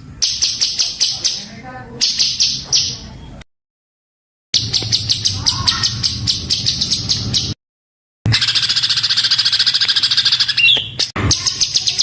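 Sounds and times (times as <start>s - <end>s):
songbird rapid chirping: 0.0s - 3.5s, 4.6s - 7.6s, 8.3s - 12.0s.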